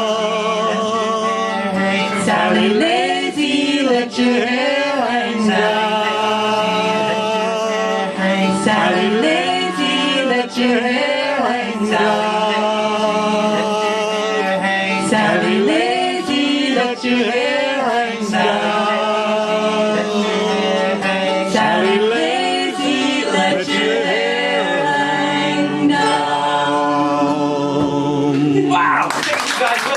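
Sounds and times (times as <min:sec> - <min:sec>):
voices singing folk chorus: 0:00.0 - 0:28.8.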